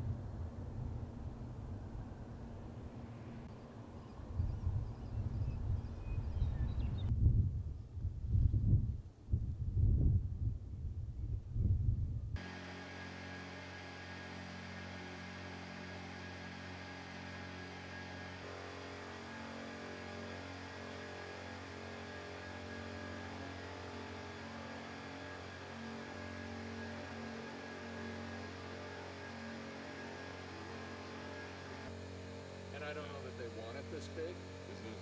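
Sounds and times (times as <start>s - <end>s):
electrical hum: 0.0s - 35.0s.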